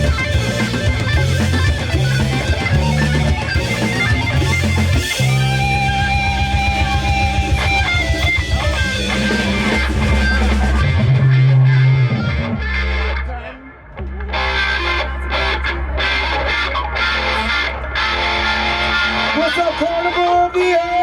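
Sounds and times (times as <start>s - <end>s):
electric guitar: 0.0s - 21.0s
live rock band playing: 0.0s - 21.0s.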